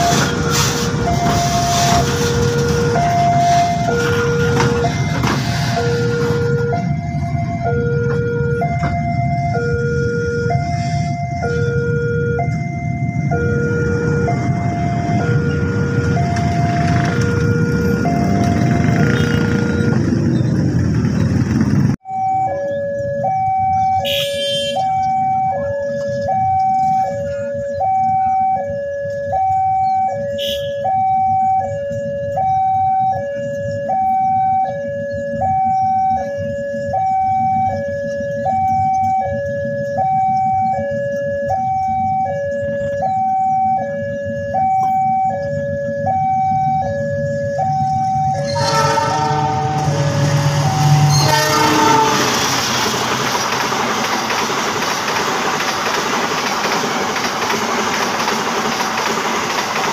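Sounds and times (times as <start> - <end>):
low rumble of traffic: 0.0 - 59.9.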